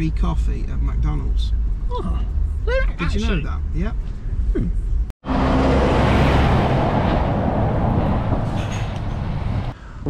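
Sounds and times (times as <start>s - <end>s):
lorries driving in traffic: 0.0s - 10.0s.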